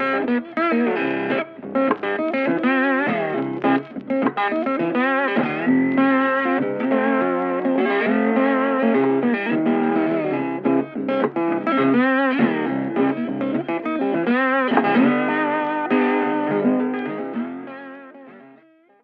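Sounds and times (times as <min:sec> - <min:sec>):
plucked guitar instrumental: 0:00.0 - 0:19.0.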